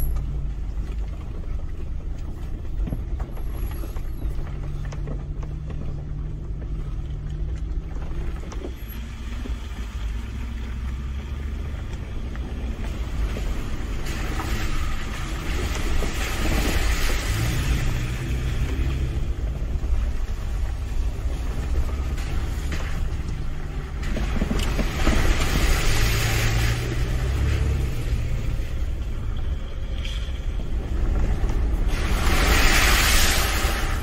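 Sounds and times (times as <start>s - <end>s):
car engine droning: 0.0s - 34.0s.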